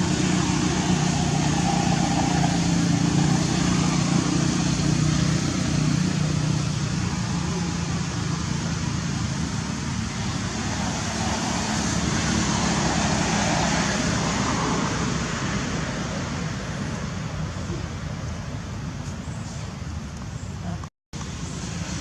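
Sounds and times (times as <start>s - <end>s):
low engine hum: 0.0s - 22.0s
road traffic rushing: 0.0s - 22.0s.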